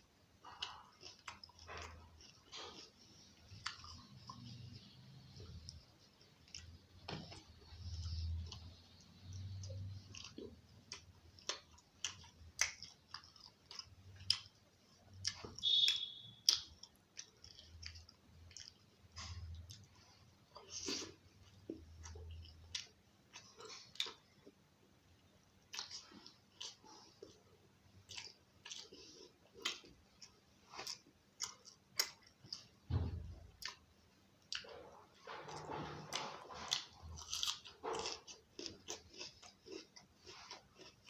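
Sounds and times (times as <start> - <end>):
close chewing: 0.4 - 24.6, 25.7 - 32.8, 34.5 - 41.0.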